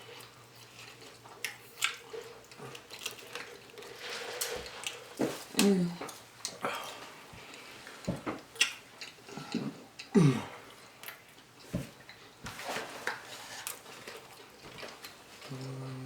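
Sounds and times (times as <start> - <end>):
chewing and mouth smacks: 0.1 - 7.7, 8.4 - 12.3, 13.1 - 15.9.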